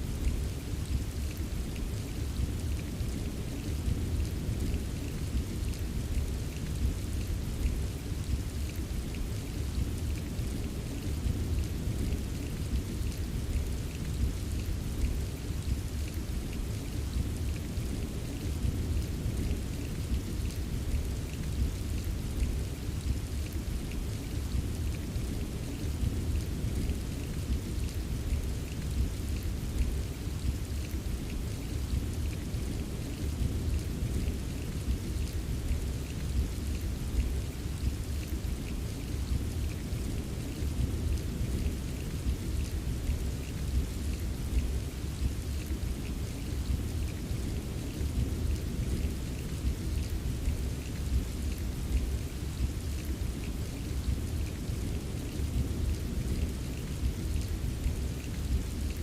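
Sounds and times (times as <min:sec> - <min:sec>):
rain drops tapping: 0:00.0 - 0:59.0.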